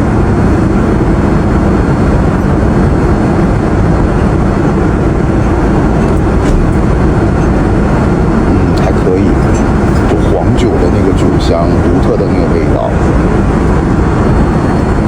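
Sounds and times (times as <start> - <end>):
airplane cabin hum: 0.0 - 15.0.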